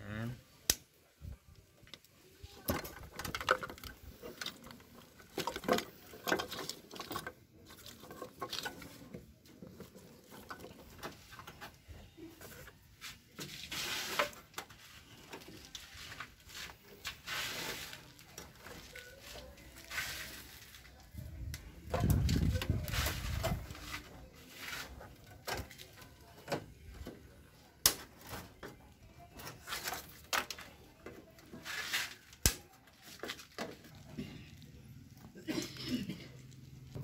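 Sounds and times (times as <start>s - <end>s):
wires rustling and scraping: 1.1s - 37.0s.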